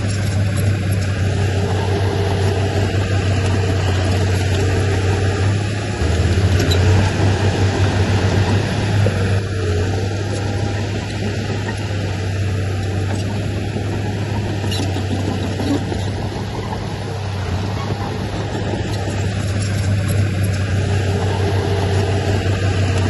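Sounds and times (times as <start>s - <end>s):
heavy diesel engine humming: 0.0s - 23.0s.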